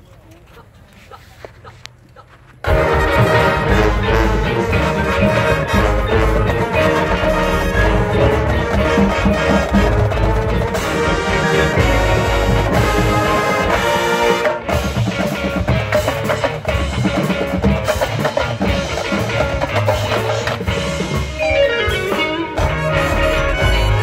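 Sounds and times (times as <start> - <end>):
marching band playing: 2.6 - 24.0.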